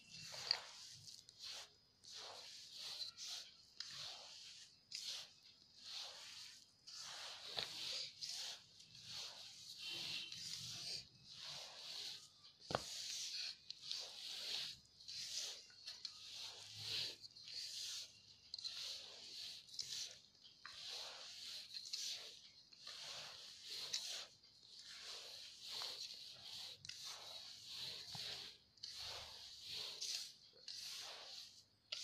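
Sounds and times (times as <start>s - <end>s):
hand rustling mixture in bowl: 0.0s - 32.0s.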